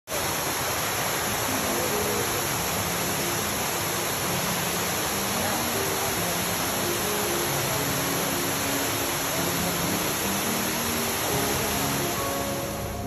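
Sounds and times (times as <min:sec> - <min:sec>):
stream pouring over rocks: 0:00.1 - 0:13.0
waterfall rushing: 0:00.1 - 0:13.0.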